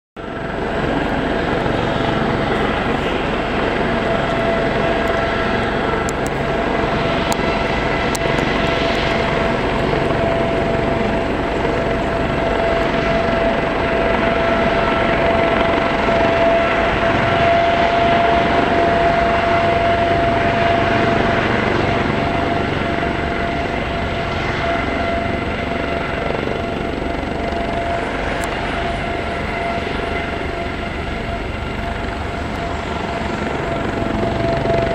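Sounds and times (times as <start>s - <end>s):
continuous whining tone: 0.2s - 34.9s
helicopter engines and rotors: 0.2s - 34.9s.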